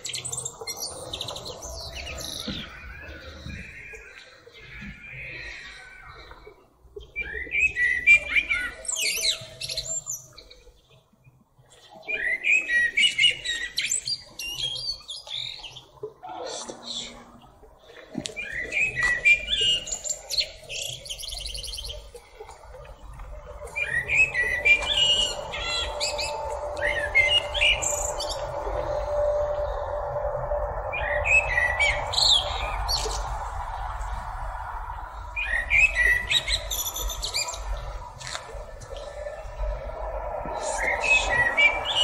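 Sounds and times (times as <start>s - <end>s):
blackbird singing: 0.0s - 6.4s, 7.0s - 11.0s, 11.7s - 17.5s, 18.3s - 22.3s, 23.6s - 34.2s, 35.2s - 42.0s.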